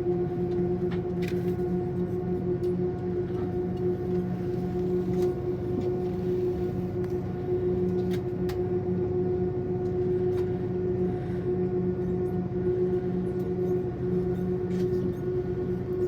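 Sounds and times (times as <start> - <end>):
airliner drone: 0.1 - 16.0.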